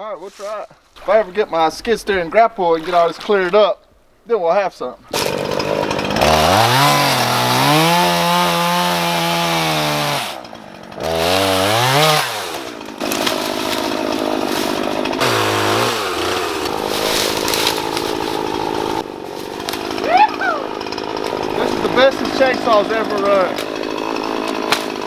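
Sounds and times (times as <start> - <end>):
chainsaw revving and cutting: 1.0 - 4.2, 4.8 - 25.0.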